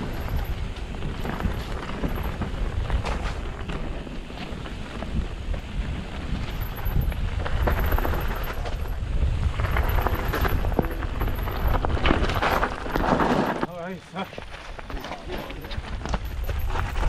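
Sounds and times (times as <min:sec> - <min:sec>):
wind buffeting microphone: 0:00.0 - 0:13.3, 0:14.8 - 0:17.0
bike rattling and knocking: 0:00.0 - 0:17.0
tyres rolling over dirt and stones: 0:00.0 - 0:17.0.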